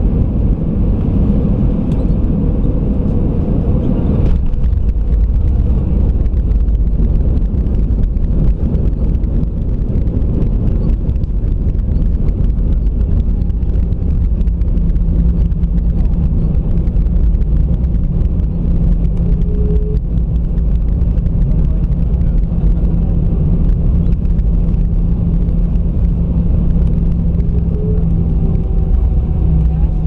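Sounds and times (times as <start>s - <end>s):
airplane engines humming: 0.0s - 30.0s.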